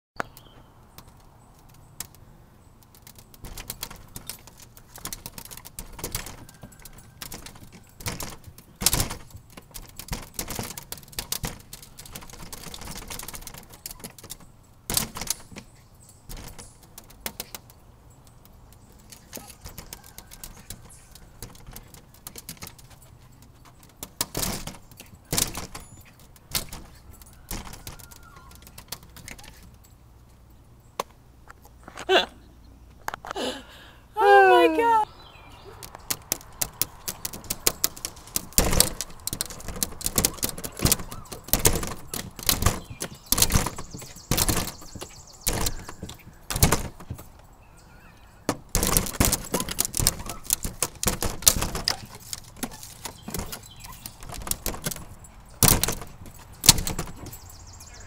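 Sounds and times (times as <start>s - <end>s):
dog claws tapping on glass: 2.9s - 30.0s, 35.8s - 47.5s, 48.5s - 57.6s.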